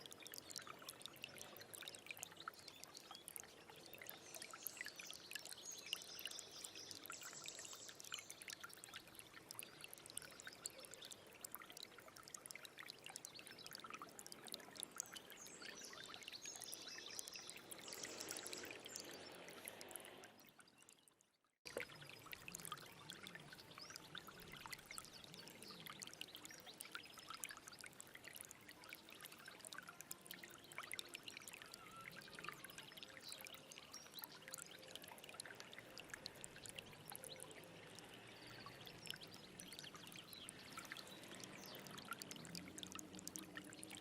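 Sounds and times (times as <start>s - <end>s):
stream babbling over stones: 0.0s - 20.8s, 21.6s - 44.0s.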